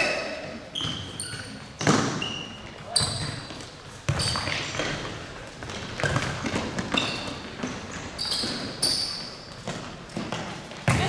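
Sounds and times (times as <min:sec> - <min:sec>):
shoes squeaking on floor: 0:00.0 - 0:11.0
ball kicked and bouncing: 0:00.8 - 0:02.3, 0:02.9 - 0:11.0.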